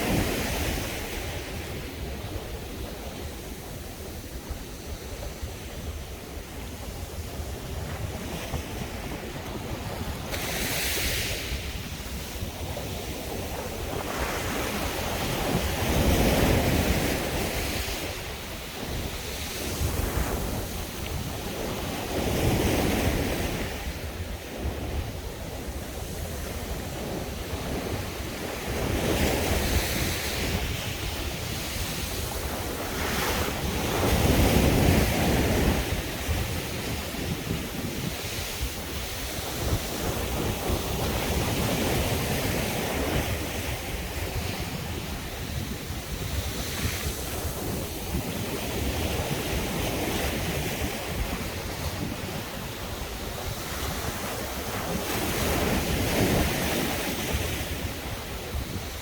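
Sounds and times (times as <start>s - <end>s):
sea waves breaking on shore: 0.0s - 59.0s
wind rumbling on microphone: 0.0s - 59.0s.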